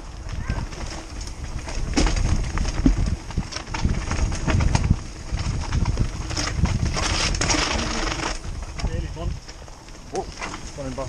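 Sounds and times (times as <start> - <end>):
mountain bike rattling: 0.0 - 11.0
wind on microphone: 0.0 - 11.0.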